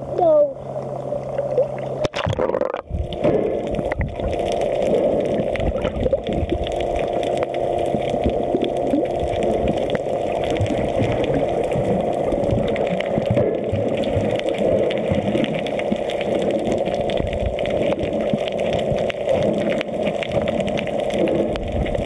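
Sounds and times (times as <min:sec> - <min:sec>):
muffled underwater water rush: 0:00.0 - 0:22.0
small underwater clicks: 0:00.8 - 0:22.0
bubbles: 0:01.1 - 0:22.0.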